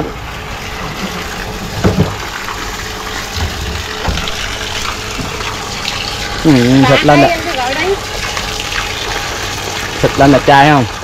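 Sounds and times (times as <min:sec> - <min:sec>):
water gushing: 0:00.0 - 0:11.0
water pump engine running: 0:00.0 - 0:11.0.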